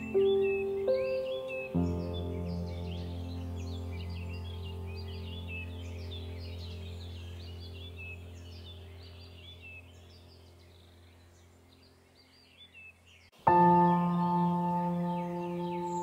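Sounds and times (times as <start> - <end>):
low ambient drone: 0.0 - 12.1, 13.5 - 16.0
birdsong chirps: 0.0 - 16.0.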